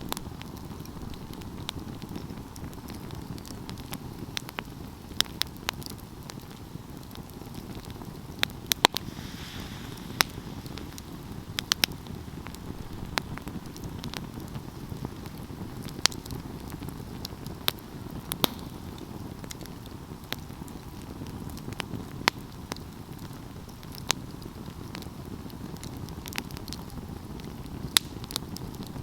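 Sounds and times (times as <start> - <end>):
fire low rumble: 0.0 - 29.0
wood fire crackling and popping: 0.0 - 29.0.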